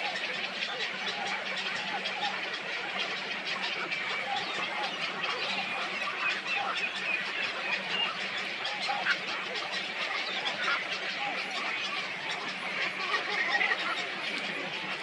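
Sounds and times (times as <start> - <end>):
chorus of birds calling: 0.0 - 15.0.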